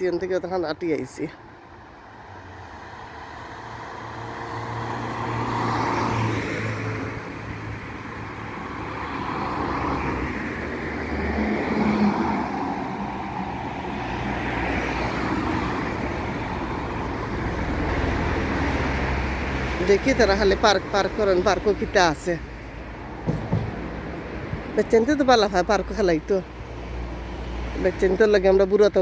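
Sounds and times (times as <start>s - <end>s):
cars passing by: 0.0s - 29.0s
traffic rumble: 0.0s - 29.0s.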